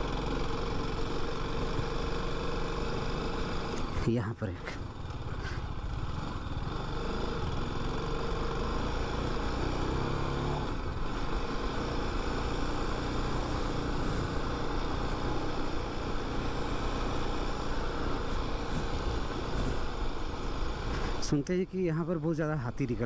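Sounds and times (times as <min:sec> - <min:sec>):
motorcycle engine on dirt road: 0:00.0 - 0:23.0.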